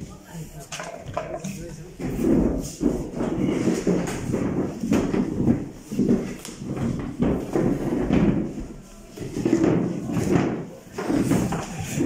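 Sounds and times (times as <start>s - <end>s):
people moving chairs and tables: 0.0s - 12.0s.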